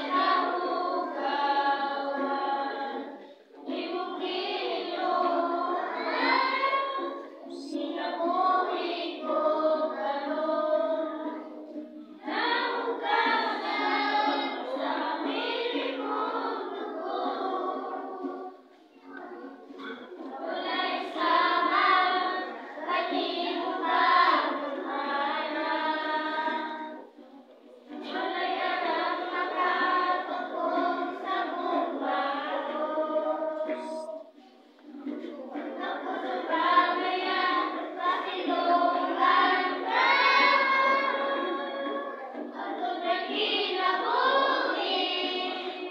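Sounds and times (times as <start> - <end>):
children singing in unison: 0.0 - 45.9.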